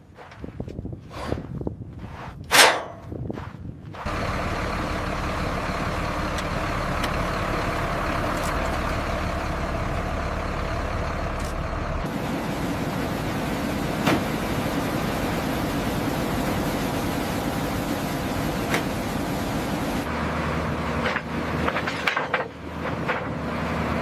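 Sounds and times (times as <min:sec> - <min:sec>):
heavy engine rumbling: 0:01.3 - 0:24.0.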